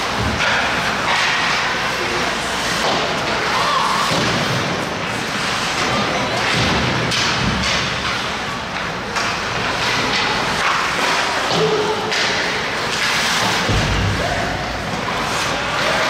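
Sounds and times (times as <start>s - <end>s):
hockey sticks and puck knocking: 0.0s - 14.2s.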